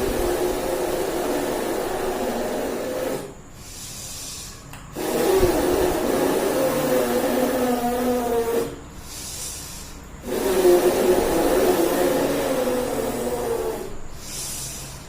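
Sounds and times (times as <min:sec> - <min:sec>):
person blowing wheezy breaths: 0:00.0 - 0:15.0.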